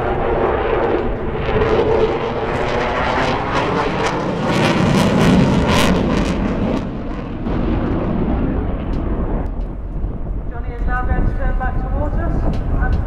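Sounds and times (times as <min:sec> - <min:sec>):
jet engine roar with crackling: 0:00.0 - 0:13.0.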